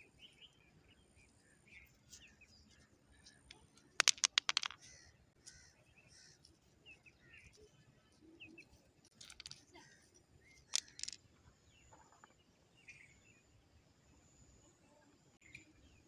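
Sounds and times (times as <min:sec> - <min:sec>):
faint small birds chirping: 0:00.0 - 0:16.0.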